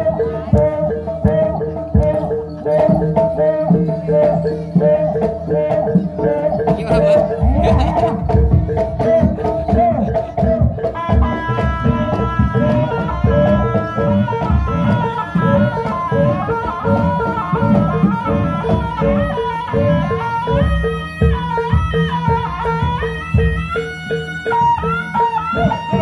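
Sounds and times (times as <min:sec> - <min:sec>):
reed pipe melody: 0:00.0 - 0:26.0.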